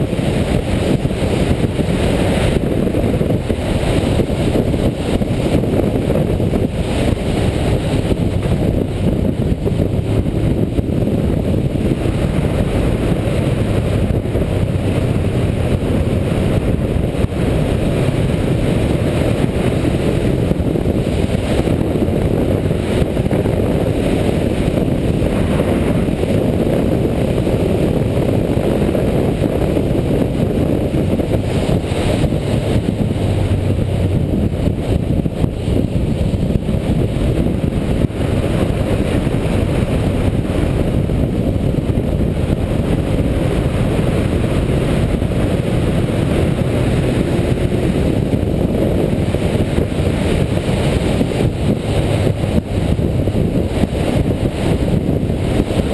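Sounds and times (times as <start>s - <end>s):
motorcycle engine running: 0.0s - 55.9s
wind rushing over microphone: 0.0s - 55.9s.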